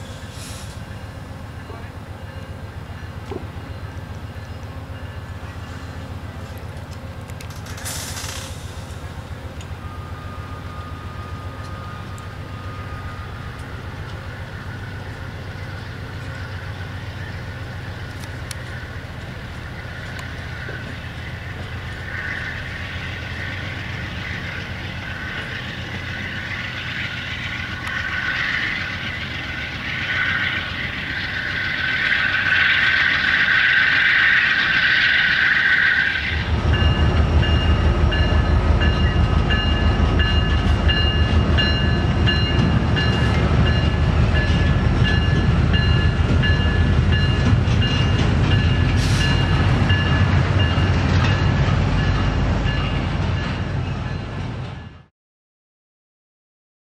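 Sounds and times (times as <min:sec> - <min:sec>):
rumble of train wheels on rail: 0:00.0 - 0:55.1.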